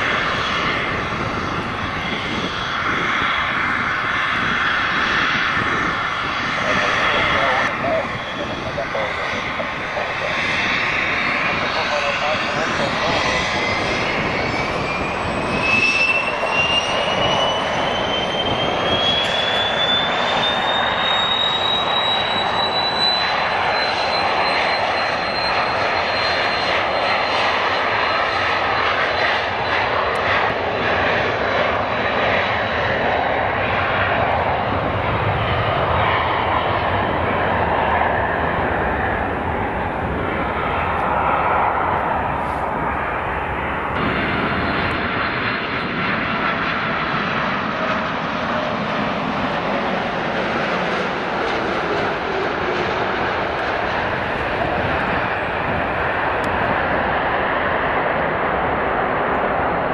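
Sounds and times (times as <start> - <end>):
approaching jet rush: 0.0 - 59.9
jet engine rush: 0.0 - 59.9
jet engines whining: 0.0 - 59.9.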